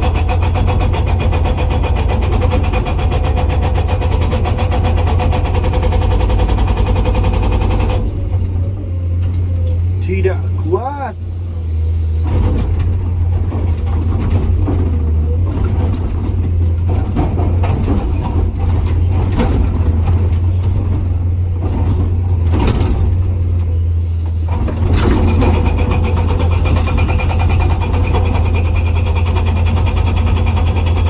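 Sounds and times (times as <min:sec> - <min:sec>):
excavator diesel engine droning: 0:00.0 - 0:31.0.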